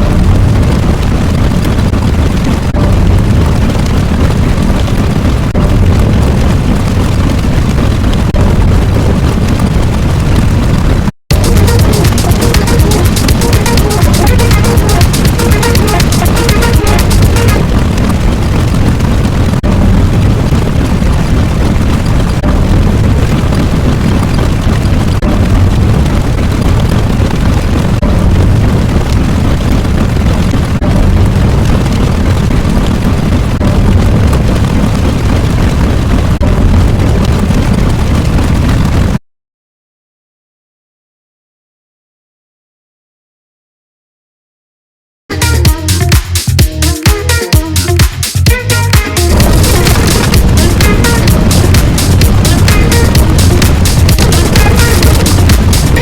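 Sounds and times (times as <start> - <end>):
deep rumbling: 0.0 - 39.2, 45.3 - 56.0.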